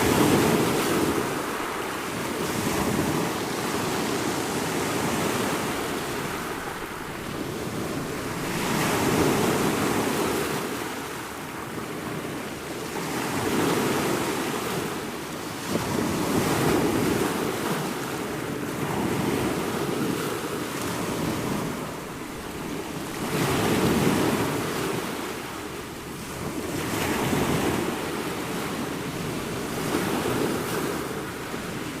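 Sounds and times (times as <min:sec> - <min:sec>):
ocean waves breaking on shore: 0:00.0 - 0:32.0
wind: 0:00.0 - 0:32.0.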